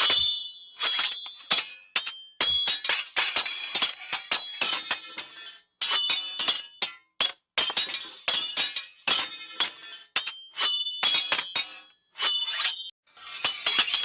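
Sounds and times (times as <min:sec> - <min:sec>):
metal sword blades clashing: 0:00.0 - 0:14.0.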